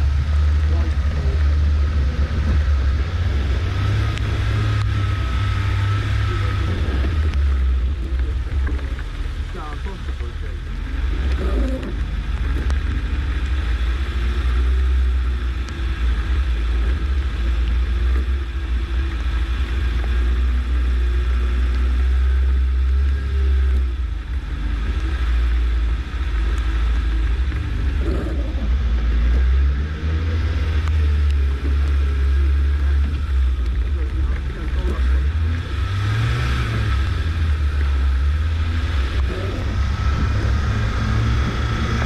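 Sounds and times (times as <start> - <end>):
engine revving while driving off-road: 0.0 - 42.0.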